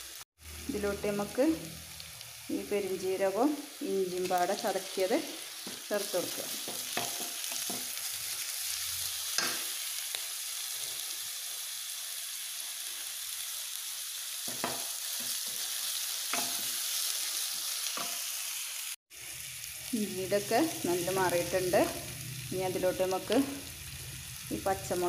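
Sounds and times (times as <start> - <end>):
shallots sizzling in oil: 0.0 - 25.0.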